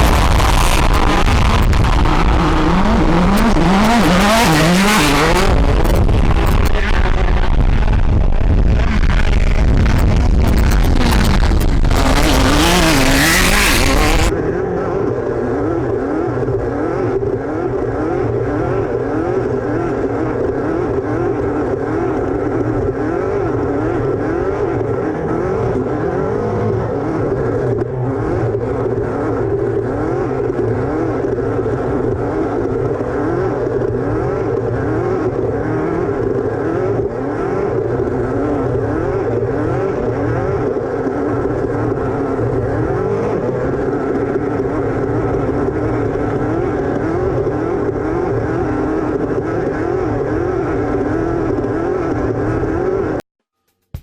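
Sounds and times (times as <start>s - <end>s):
race car engine revving: 0.0s - 53.2s.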